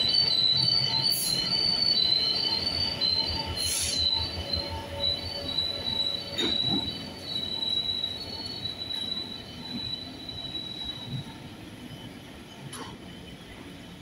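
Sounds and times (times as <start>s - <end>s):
train wheels squealing: 0.0s - 14.0s.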